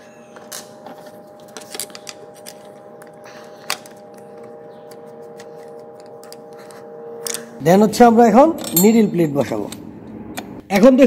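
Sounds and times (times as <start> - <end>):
faint hum: 0.0 - 10.7.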